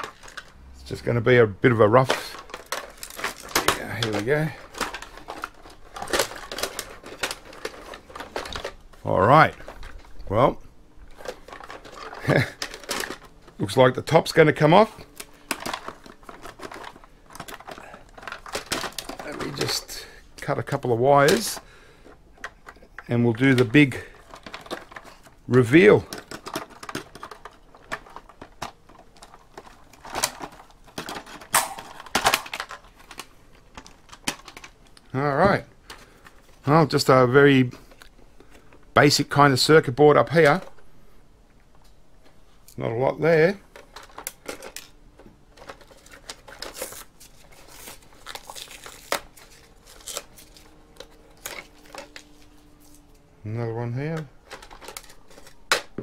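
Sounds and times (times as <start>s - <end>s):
plastic shell clattering: 1.9s - 10.3s, 11.0s - 36.6s, 43.6s - 53.0s, 54.1s - 56.0s.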